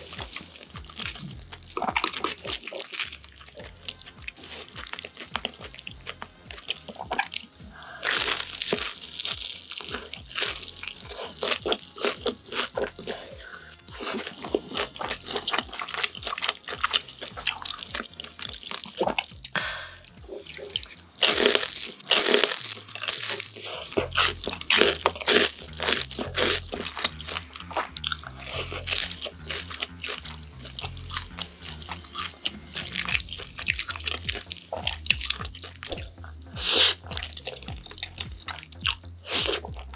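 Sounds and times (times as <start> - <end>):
crunching and chewing fried pork: 0.0 - 39.9.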